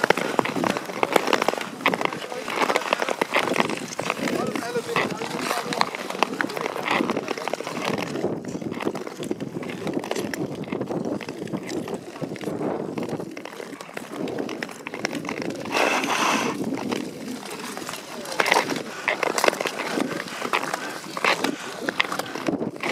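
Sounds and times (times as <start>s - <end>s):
ice skates scraping on ice: 0.0s - 22.9s.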